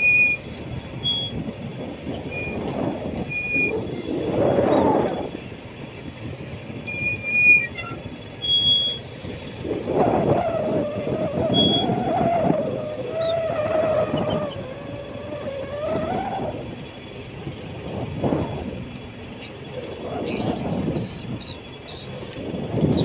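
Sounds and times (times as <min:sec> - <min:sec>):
boat motor running: 0:00.0 - 0:23.0
wavering whine: 0:00.0 - 0:23.0.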